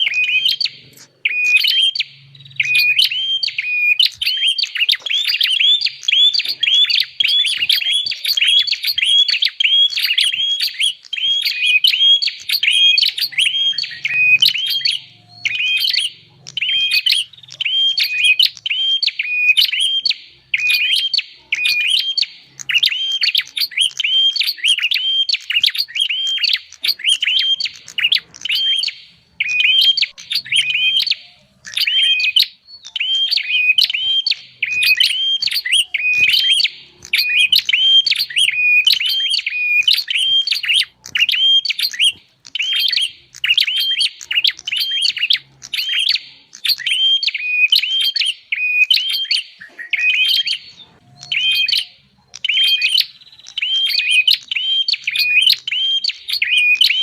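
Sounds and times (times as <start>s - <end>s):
bird sharp chirps: 0.0s - 57.0s.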